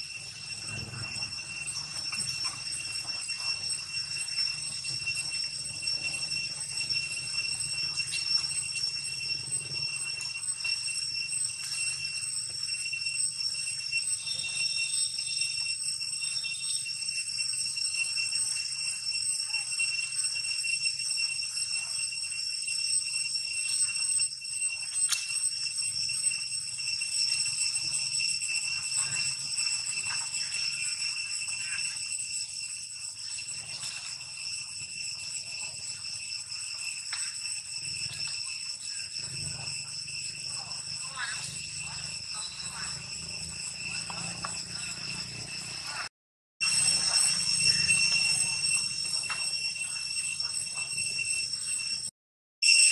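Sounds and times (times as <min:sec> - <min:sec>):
high-pitched ringing drone: 0:00.0 - 0:52.9.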